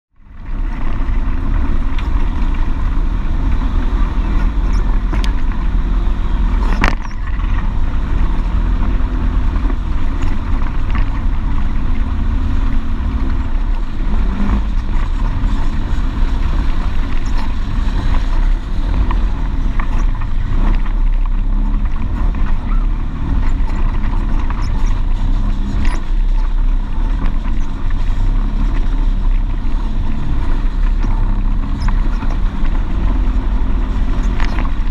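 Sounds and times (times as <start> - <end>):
off-road vehicle engine running: 0.1 - 34.9
knocks and rattles over bumps: 0.2 - 34.9.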